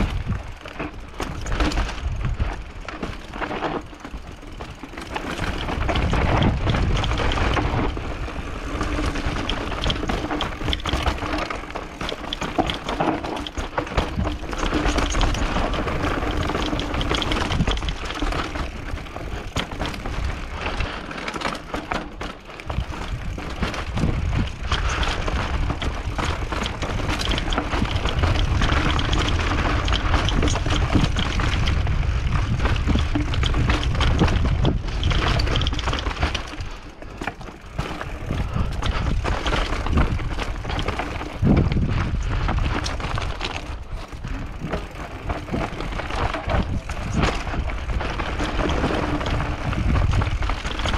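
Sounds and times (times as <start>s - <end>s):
wind buffeting microphone: 0.0s - 3.0s, 4.1s - 11.4s, 13.5s - 20.8s, 22.7s - 36.8s, 37.6s - 50.9s
bike chain and frame rattling: 0.0s - 50.9s
tyres on dirt and stones: 0.0s - 50.9s.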